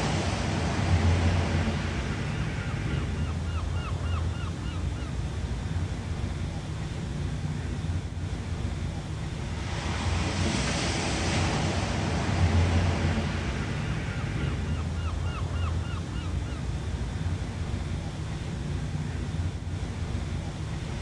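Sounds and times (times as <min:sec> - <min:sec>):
low rumble of surf: 0:00.0 - 0:21.0
ocean waves breaking: 0:00.0 - 0:21.0.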